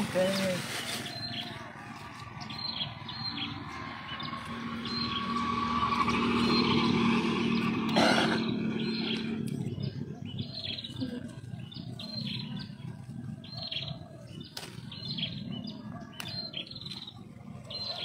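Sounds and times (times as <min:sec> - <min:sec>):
small bird chirping: 0:02.1 - 0:18.0.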